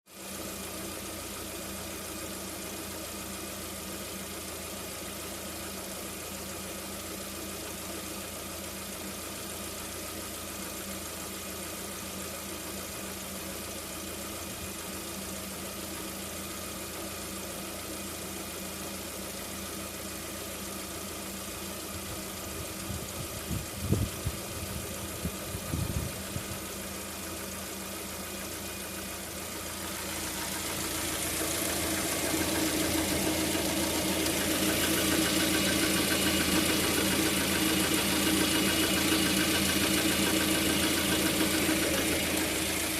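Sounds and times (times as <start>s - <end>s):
car engine idling with knock: 0.1s - 42.9s.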